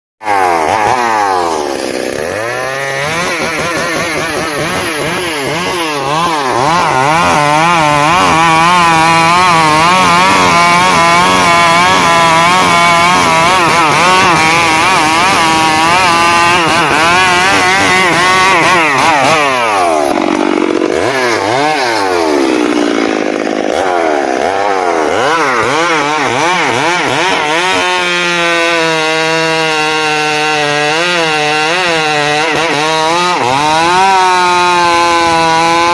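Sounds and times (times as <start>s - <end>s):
chainsaw cutting into tree: 0.2s - 35.9s.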